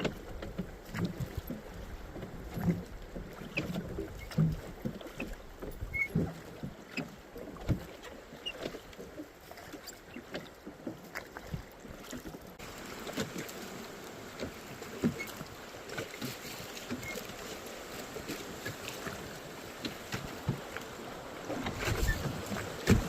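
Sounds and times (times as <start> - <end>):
water slapping boat hull: 0.0 - 23.0.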